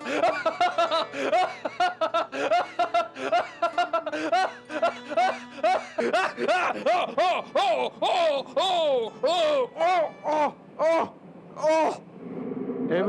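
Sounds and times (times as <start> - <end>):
high-pitched laughter: 0.0 - 12.0.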